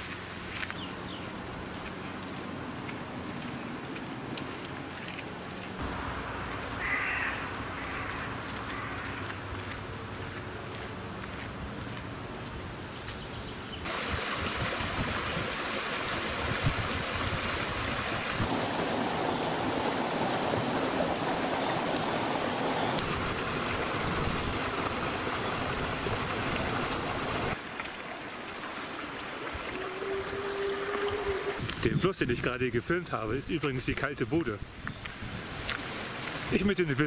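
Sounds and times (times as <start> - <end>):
stream babbling over stones: 0.0 - 11.2, 13.8 - 34.6
outdoor background noise: 0.0 - 37.0.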